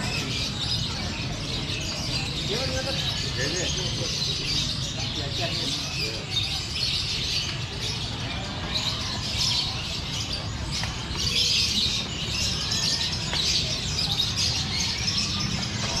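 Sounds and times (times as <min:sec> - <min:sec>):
songbirds chirping and twittering: 0:00.0 - 0:16.0.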